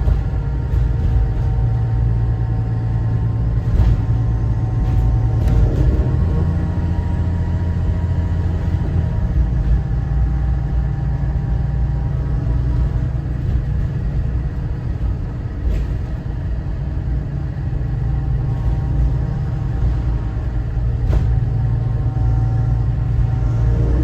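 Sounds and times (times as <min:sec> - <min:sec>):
diesel bus engine rumbling: 0:00.0 - 0:24.0.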